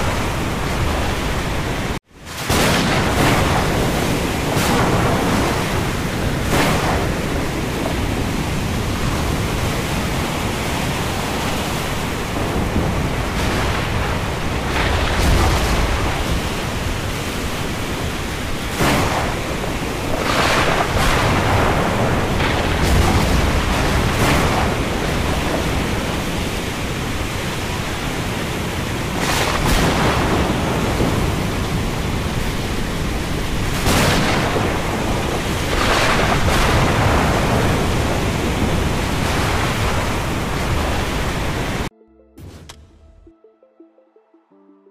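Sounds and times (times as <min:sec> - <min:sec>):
steady rushing rain noise: 0:00.0 - 0:41.9
thunder cracking and rolling: 0:00.0 - 0:42.8
deep thunder rumbles: 0:00.0 - 0:43.2.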